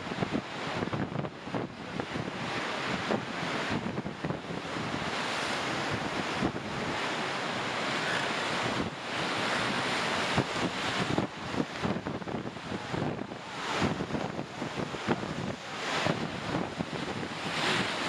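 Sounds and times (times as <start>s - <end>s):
whitewater rapid rushing and splashing: 0.0s - 18.0s
wind buffeting microphone: 0.0s - 18.0s.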